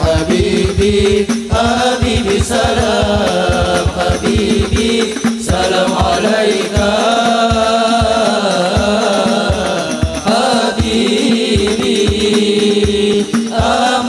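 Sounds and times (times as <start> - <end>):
hand drums beating: 0.0 - 14.0
men singing a devotional chant: 0.0 - 14.0.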